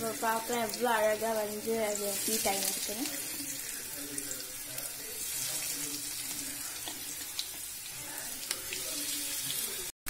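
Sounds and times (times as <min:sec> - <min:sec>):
onion rings frying in oil: 0:00.0 - 0:09.9.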